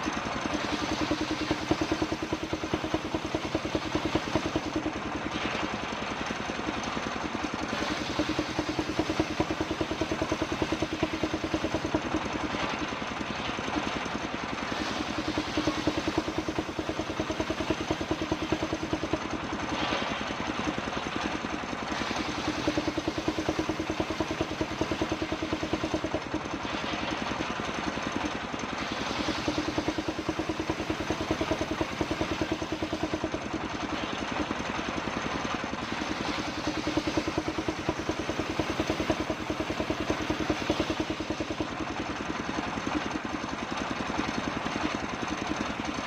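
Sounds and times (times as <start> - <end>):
sawmill engine chugging: 0.0 - 46.0.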